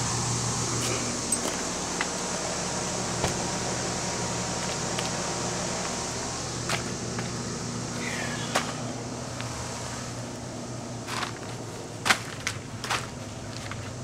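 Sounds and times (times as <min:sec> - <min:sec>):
machinery humming and whirring: 0:00.0 - 0:14.0.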